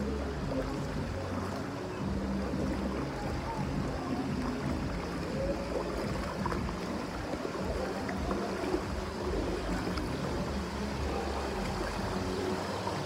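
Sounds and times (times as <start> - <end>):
people wading through water: 0.0 - 13.0
water rushing and sloshing: 0.0 - 13.0.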